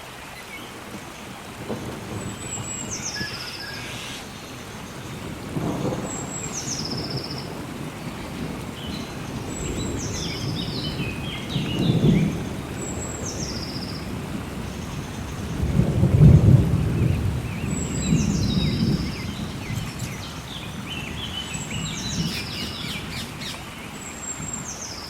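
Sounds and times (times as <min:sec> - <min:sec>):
steady rain: 0:00.0 - 0:25.0
low rolling thunder: 0:00.9 - 0:23.6.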